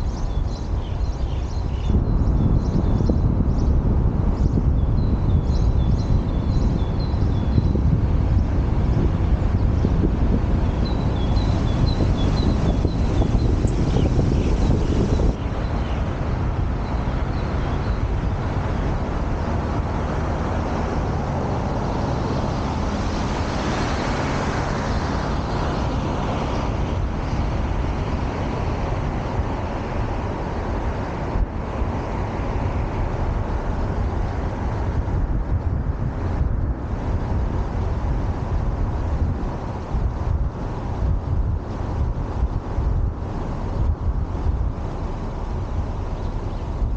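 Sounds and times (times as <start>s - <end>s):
cars driving past: 6.3s - 46.9s.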